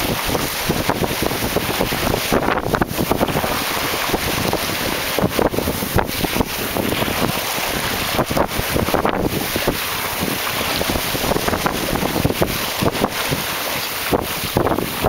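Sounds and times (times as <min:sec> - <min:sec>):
bow wave splashing along hull: 0:00.0 - 0:15.0
wind buffeting microphone: 0:00.0 - 0:15.0.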